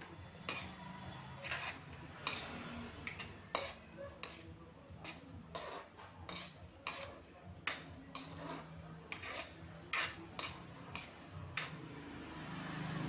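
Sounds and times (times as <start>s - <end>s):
metal spatula scraping a pan: 0.0s - 11.9s.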